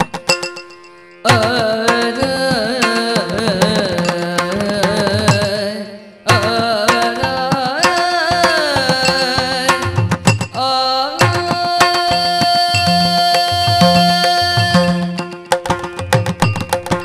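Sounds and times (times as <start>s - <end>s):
drum strokes: 0.0s - 5.5s, 6.3s - 10.6s, 11.2s - 17.0s
woman singing: 1.3s - 15.4s.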